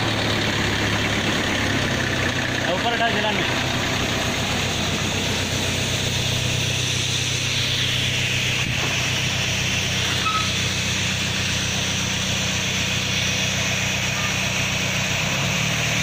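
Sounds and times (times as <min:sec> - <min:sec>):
liquid spraying from nozzles: 0:00.0 - 0:16.0
tractor engine running: 0:00.0 - 0:16.0.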